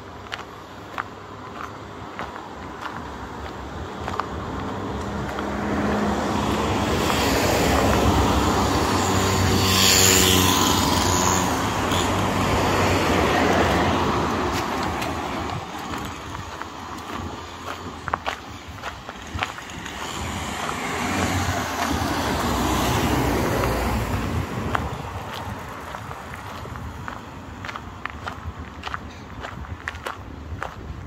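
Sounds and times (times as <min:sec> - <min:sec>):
vehicle passing on road: 0:00.0 - 0:31.0.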